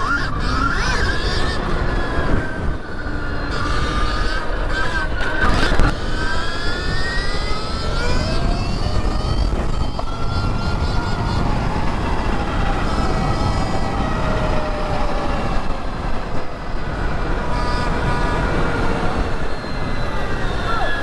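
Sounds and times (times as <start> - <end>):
electric motorbike motor whining: 0.0 - 21.0
wind rushing over microphone: 0.0 - 21.0.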